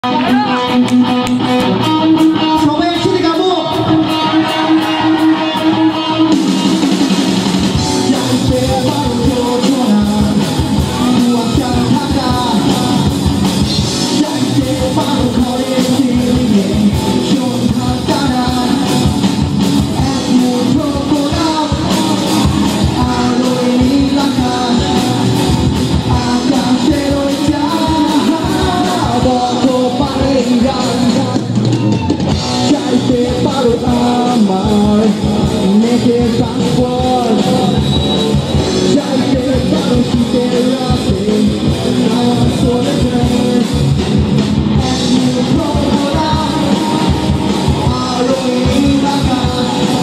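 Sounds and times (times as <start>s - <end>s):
man singing: 0.0s - 50.0s
rock band playing: 0.0s - 50.0s.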